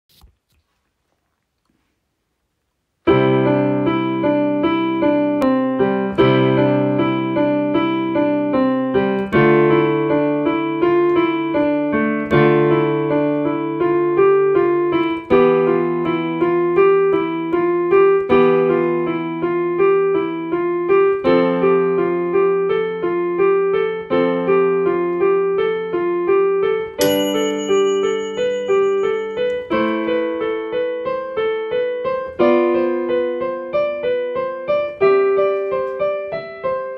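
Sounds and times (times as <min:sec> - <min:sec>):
solo piano playing: 0:03.0 - 0:36.9.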